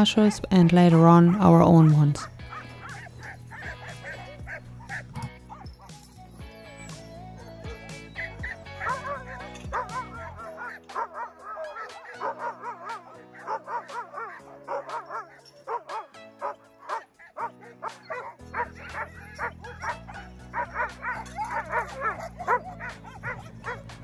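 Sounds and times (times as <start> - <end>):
background music with chords: 0.0 - 24.0
dogs barking and whining: 0.0 - 24.0.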